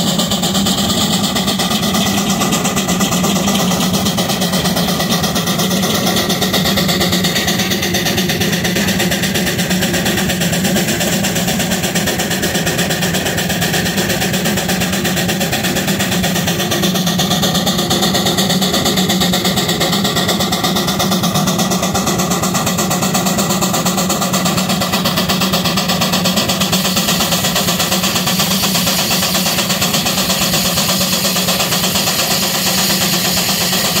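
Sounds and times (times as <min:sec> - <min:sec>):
steam engine exhaust chuffing: 0:00.0 - 0:34.0.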